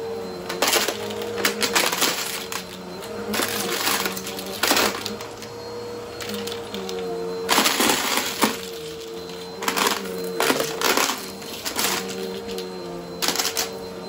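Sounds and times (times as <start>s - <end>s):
vacuum cleaner humming: 0.0s - 14.0s
debris rattling through vacuum: 0.5s - 13.8s.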